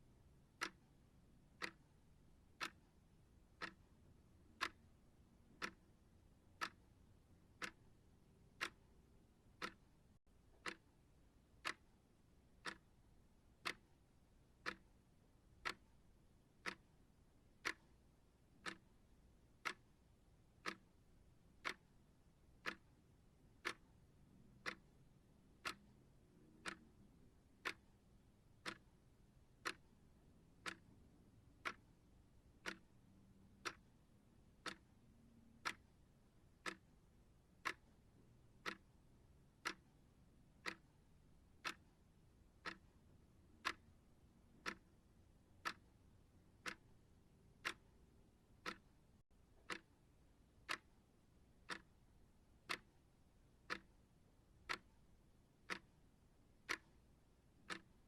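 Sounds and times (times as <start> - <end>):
clock ticking: 0.1 - 58.0.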